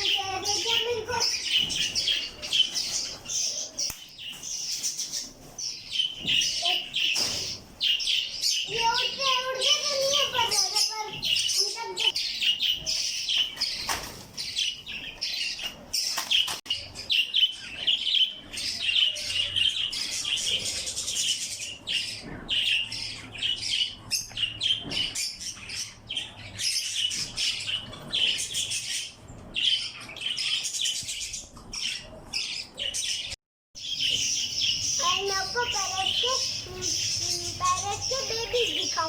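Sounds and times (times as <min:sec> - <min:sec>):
parrots chirping and chattering: 0:00.0 - 0:39.0.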